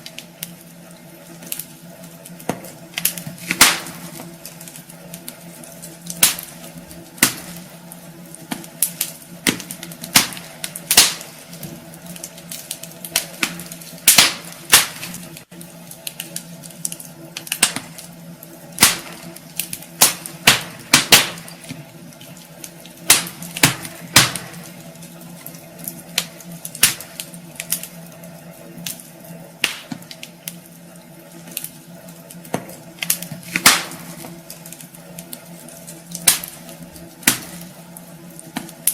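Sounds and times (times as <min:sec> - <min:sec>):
burning logs popping: 0:00.0 - 0:38.9
steady low hum: 0:00.0 - 0:38.9.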